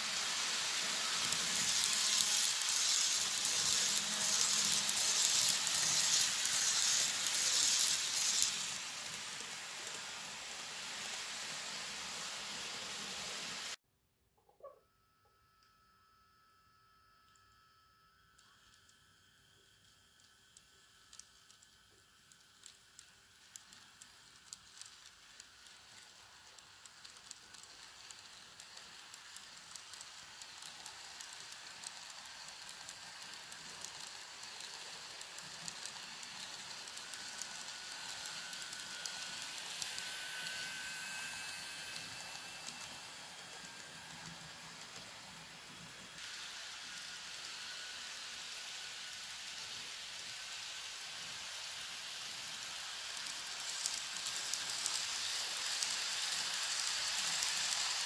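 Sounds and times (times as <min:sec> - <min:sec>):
model train wheels rolling on rail: 0:00.0 - 0:13.8, 0:18.1 - 0:58.0.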